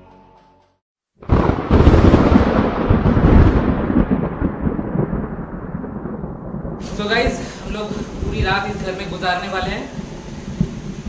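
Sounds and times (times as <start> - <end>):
thunder clap: 1.2 - 11.0
thunder rumble: 1.2 - 11.0.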